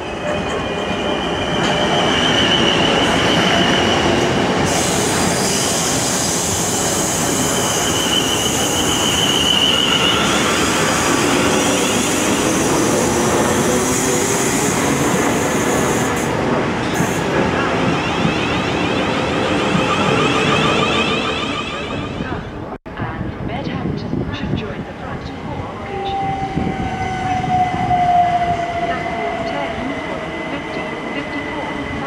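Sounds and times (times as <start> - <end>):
high-pitched train squeal: 0.0 - 16.3, 17.0 - 22.5, 25.9 - 32.0
train rolling rumble: 0.0 - 32.0.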